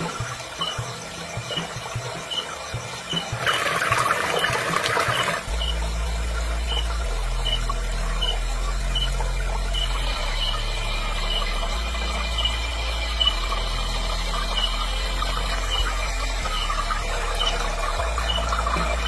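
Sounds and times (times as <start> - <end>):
steady low hum: 0.0 - 19.0
water splashing: 0.0 - 19.0.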